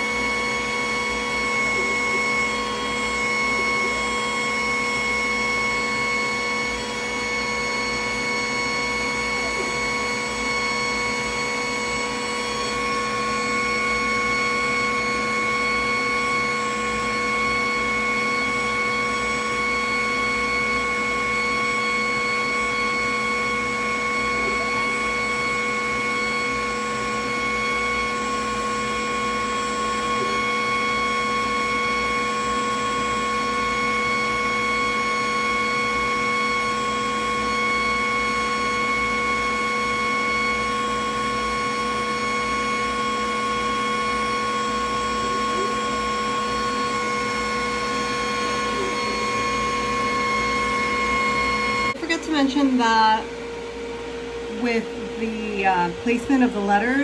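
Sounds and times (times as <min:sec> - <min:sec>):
laser cutter humming and whining: 0:00.0 - 0:57.0.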